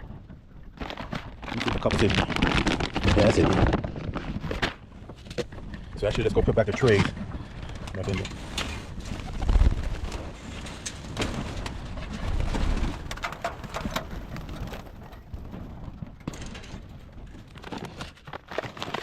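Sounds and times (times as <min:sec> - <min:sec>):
knocks and handling noise: 0:00.0 - 0:19.0.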